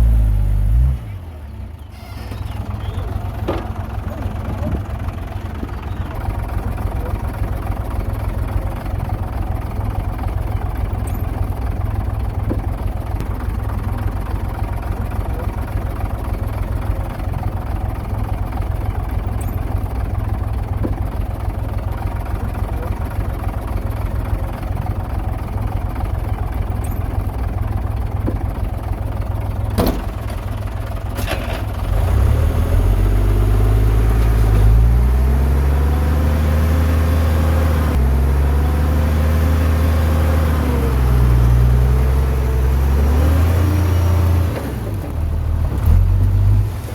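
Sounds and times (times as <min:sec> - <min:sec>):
heavy diesel engine rumbling: 0:00.0 - 0:46.9.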